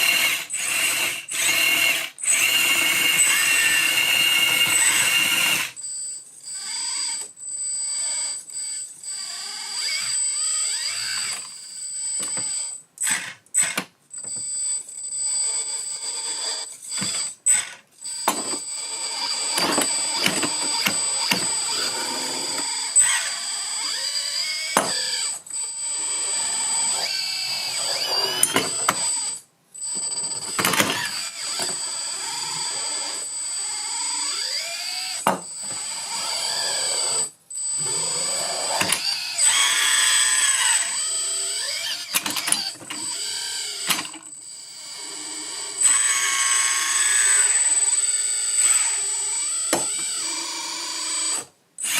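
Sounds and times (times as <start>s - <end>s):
electric pump whine: 0.0s - 5.8s, 14.3s - 51.9s.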